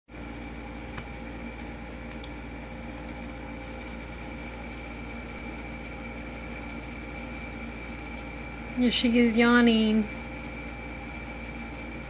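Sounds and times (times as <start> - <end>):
steady machine hum: 0.1 - 12.0.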